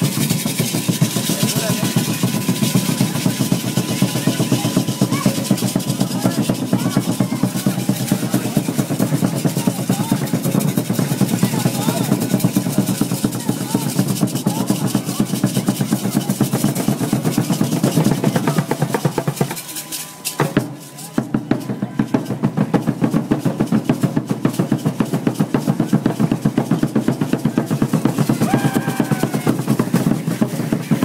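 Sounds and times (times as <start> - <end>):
drum beating fast: 0.0 - 31.0.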